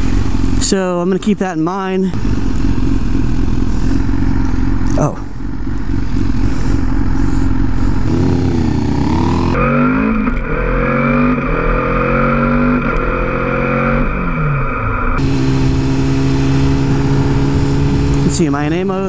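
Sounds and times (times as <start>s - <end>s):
motorcycle engine accelerating: 0.0s - 0.8s, 2.1s - 19.0s.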